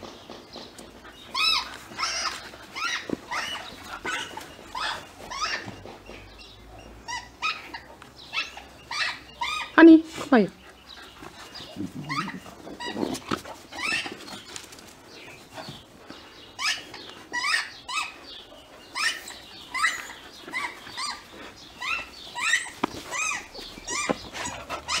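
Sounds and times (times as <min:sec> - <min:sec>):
puppies yelping: 0:00.0 - 0:09.9, 0:10.6 - 0:25.0.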